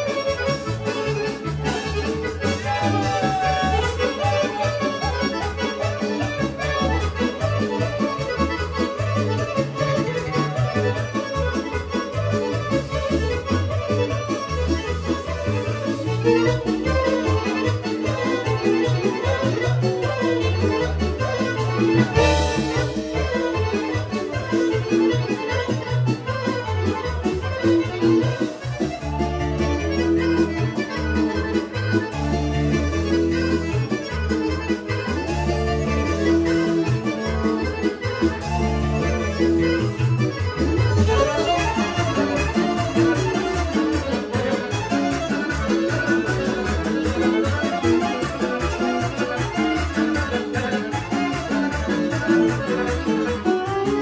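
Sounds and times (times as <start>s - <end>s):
fast folk dance music by live band: 0.0s - 54.0s.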